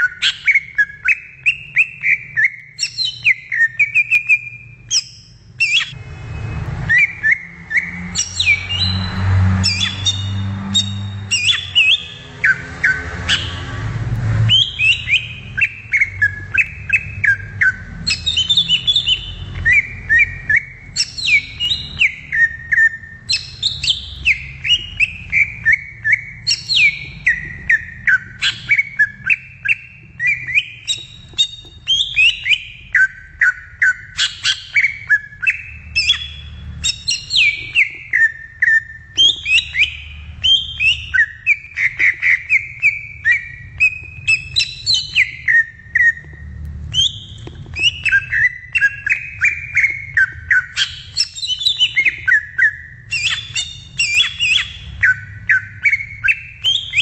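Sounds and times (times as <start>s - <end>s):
bird singing whistled notes: 0.0s - 13.7s, 14.4s - 57.0s.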